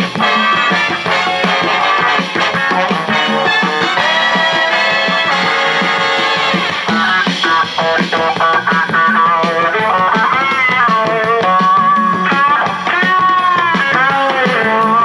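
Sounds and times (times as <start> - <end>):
guitar music with drums: 0.0 - 15.0.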